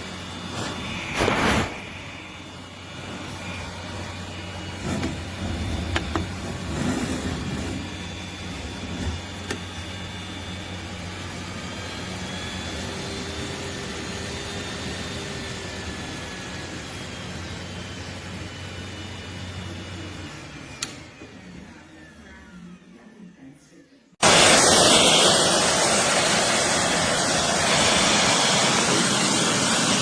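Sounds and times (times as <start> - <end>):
blow dryer rushing air: 0.0 - 21.6, 24.2 - 30.0.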